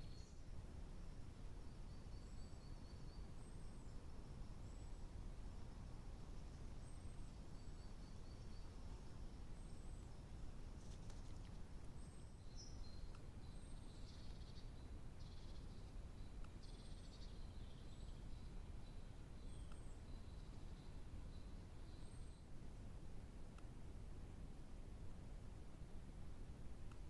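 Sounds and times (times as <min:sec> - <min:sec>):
small birds singing: 0:00.0 - 0:22.6
steady low hiss: 0:00.0 - 0:27.0.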